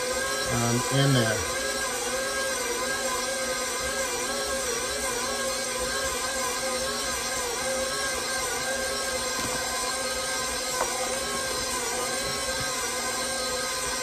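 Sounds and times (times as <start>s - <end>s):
stand mixer motor hum: 0.0s - 14.0s.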